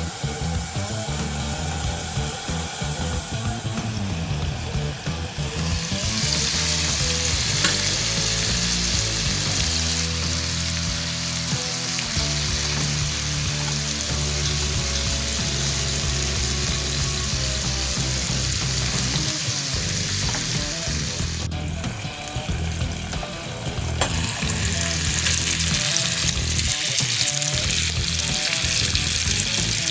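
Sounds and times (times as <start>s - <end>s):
background music: 0.0s - 29.9s
food sizzling in a skillet: 0.0s - 29.9s.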